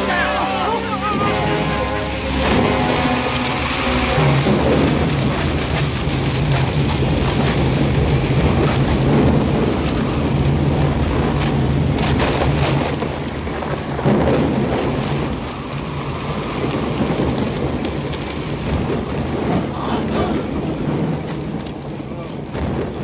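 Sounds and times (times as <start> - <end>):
heavy rain falling: 0.0 - 23.0
thunder crack: 0.0 - 23.0
thunder rumbling: 0.0 - 23.0.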